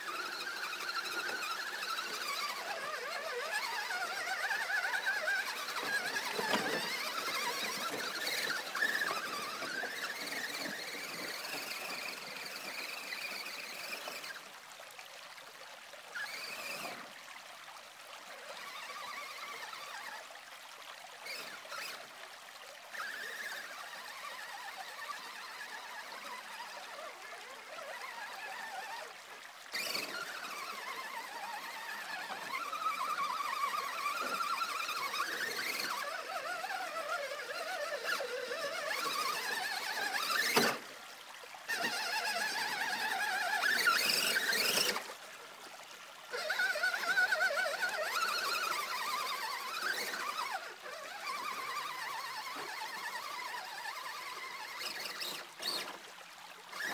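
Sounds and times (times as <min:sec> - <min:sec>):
toy truck motor whining: 0:00.0 - 0:17.2, 0:18.2 - 0:56.9
water trickling and splashing: 0:00.0 - 0:56.9.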